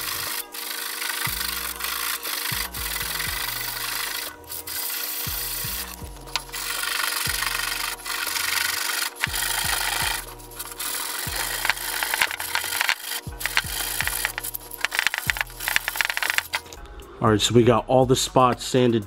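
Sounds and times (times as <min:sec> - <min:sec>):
sandpaper rubbing on bumper: 0:00.0 - 0:16.6.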